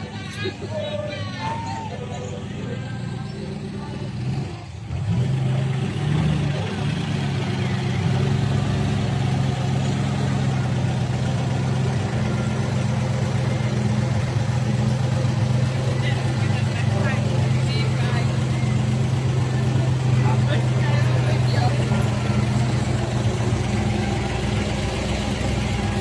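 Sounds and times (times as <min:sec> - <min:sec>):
truck engine droning at low revs: 0:00.0 - 0:26.0.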